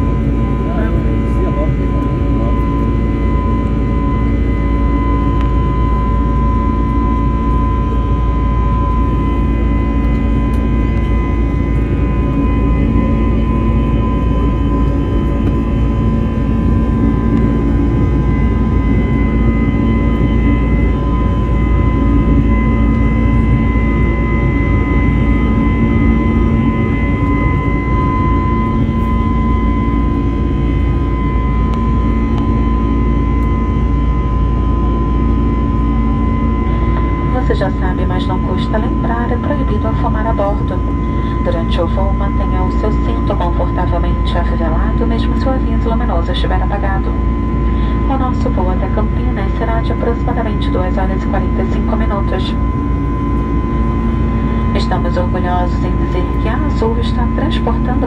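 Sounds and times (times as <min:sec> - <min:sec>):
jet engine drone in cabin: 0:00.0 - 0:58.0
jet engine whine: 0:00.0 - 0:58.0.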